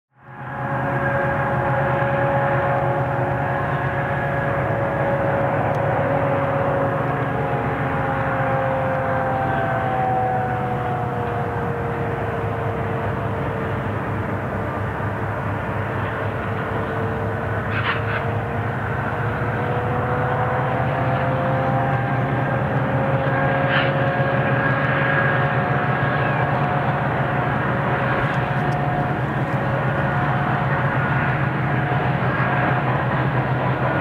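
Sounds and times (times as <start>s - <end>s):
distant locomotive engine drone: 0.1s - 34.0s.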